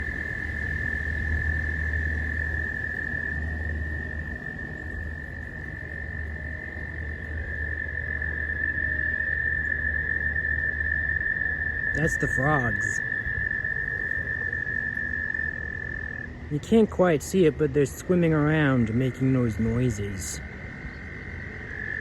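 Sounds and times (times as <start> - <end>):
low rumble: 0.0 - 19.7
frogs trilling: 0.0 - 22.0.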